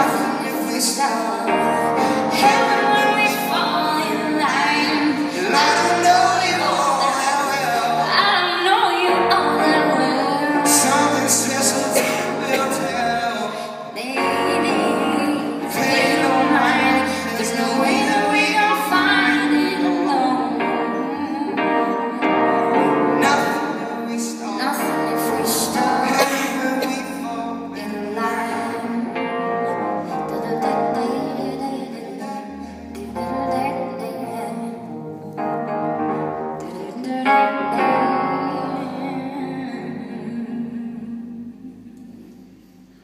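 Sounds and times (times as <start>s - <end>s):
person singing: 0.0s - 42.5s
keyboard accompaniment: 0.0s - 43.0s.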